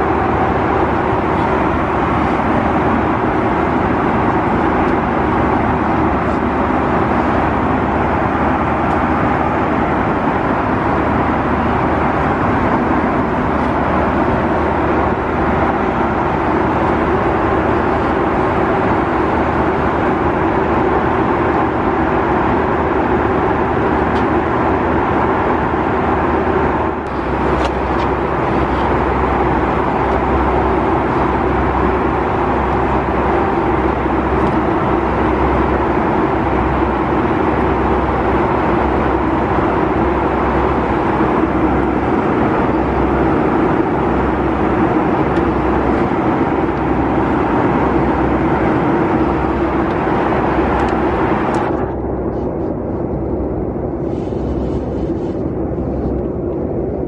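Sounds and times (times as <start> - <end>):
airplane cabin noise: 0.0 - 57.0.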